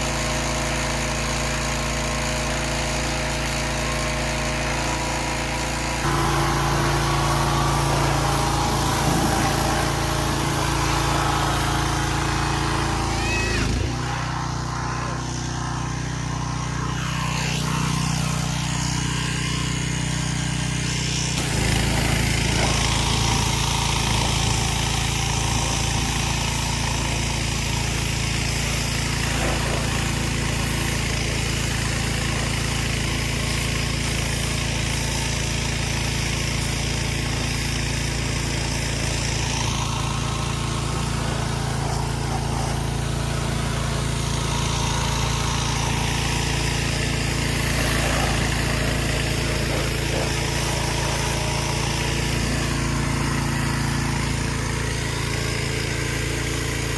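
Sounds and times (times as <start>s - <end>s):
pressure washer engine running: 0.0s - 56.9s
water spray hissing: 3.7s - 56.9s.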